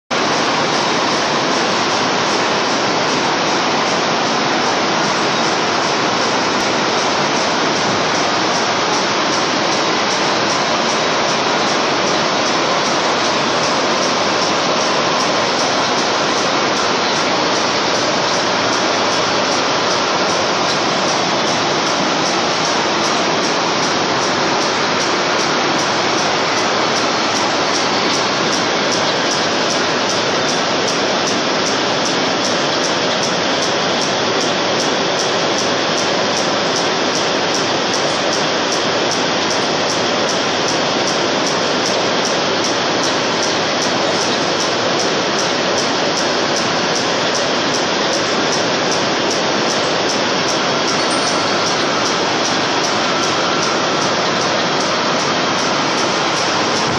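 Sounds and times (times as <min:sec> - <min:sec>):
carding machine rushing noise: 0:00.1 - 0:56.9.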